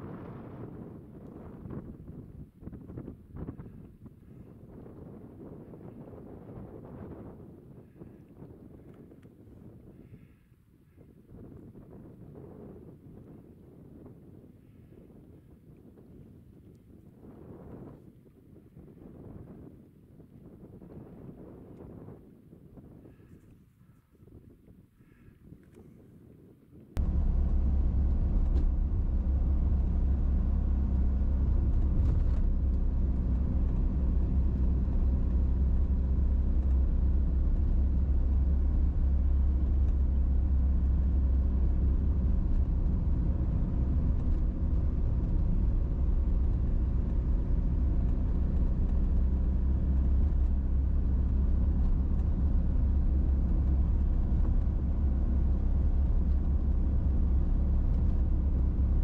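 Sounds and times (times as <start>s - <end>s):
vehicle road and wind noise: 0.0s - 59.0s.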